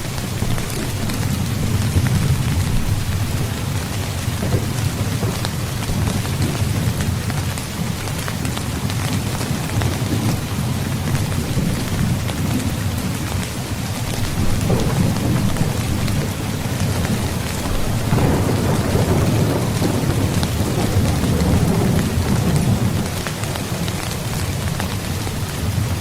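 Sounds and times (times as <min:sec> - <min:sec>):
heavy rain: 0:00.0 - 0:26.0
low rolling thunder: 0:00.0 - 0:26.0.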